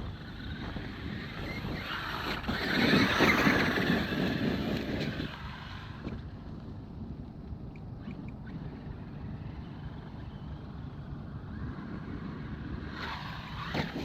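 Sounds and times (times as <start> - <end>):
rc truck tyre and drivetrain noise: 0.0 - 14.0.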